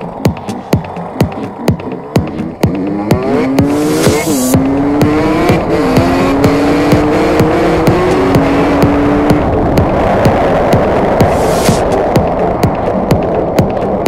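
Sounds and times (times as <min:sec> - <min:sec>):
electronic dance music: 0:00.0 - 0:14.0
dirt bike engine accelerating: 0:00.1 - 0:13.8.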